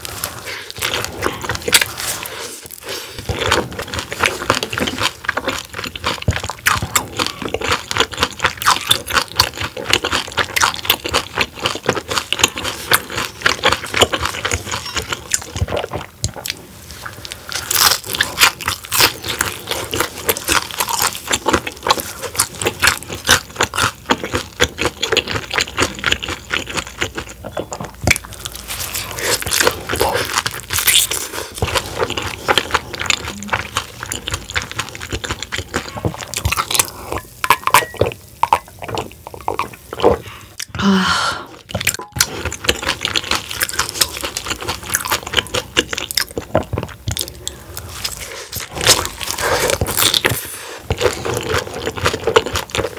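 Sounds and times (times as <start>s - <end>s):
crunching fried food: 0.0s - 40.7s, 41.5s - 52.9s
wet chewing: 0.0s - 52.9s.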